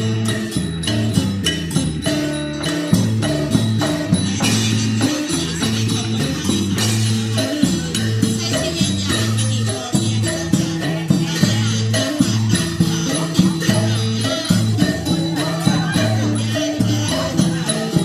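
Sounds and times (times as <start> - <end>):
percussion beat: 0.0 - 18.0.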